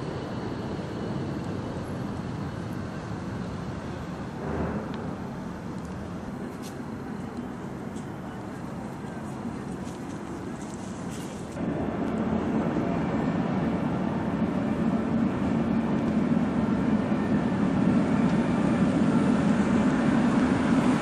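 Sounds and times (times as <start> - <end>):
tram approaching: 0.0 - 21.0.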